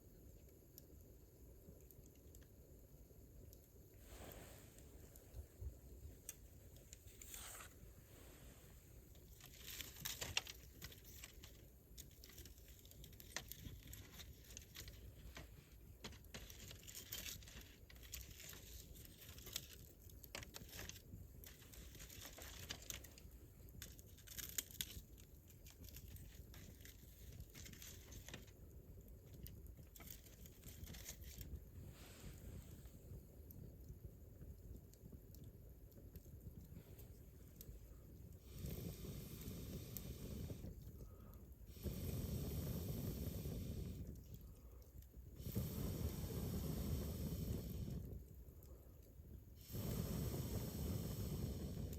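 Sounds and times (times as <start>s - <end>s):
campfire crackling: 0.0s - 51.9s.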